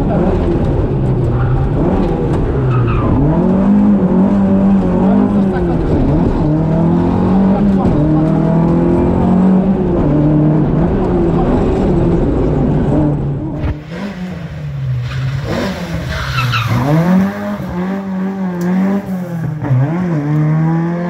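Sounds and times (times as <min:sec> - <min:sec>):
rally car engine accelerating: 0:00.0 - 0:21.0
road rumble: 0:00.0 - 0:21.0.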